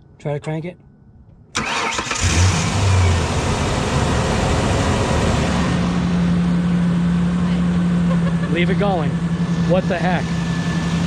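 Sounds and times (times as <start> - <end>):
truck engine starting and idling: 1.5 - 11.0.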